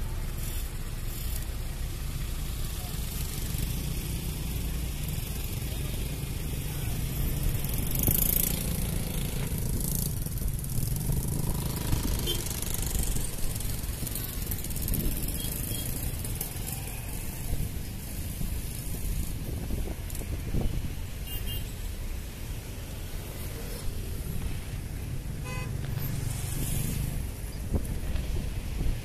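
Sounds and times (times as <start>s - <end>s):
traffic rumble and hiss: 0.0s - 29.0s.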